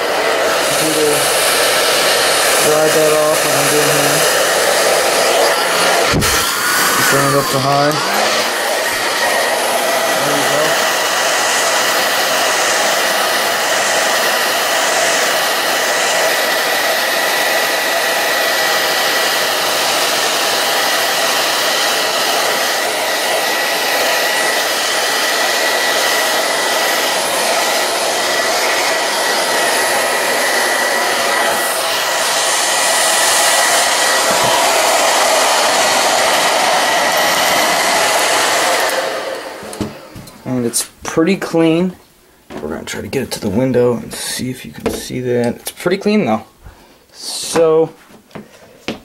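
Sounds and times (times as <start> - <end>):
hair dryer running: 0.0 - 40.7, 43.4 - 45.6, 48.4 - 49.0.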